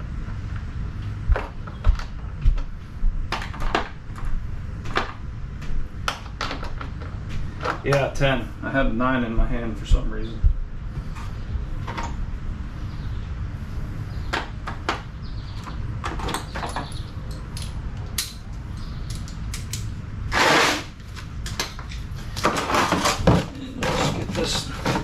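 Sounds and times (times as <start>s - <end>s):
steady low rumble: 0.0s - 22.4s.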